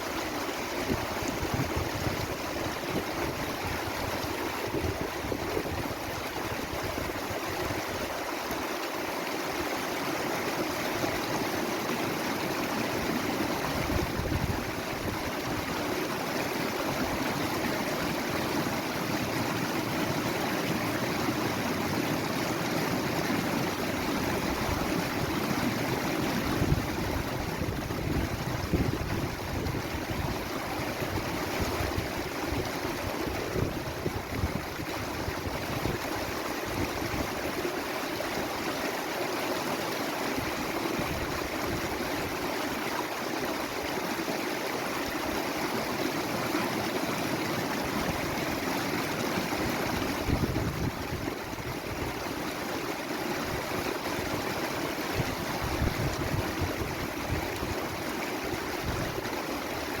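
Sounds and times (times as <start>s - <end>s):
water rushing: 0.0s - 60.0s.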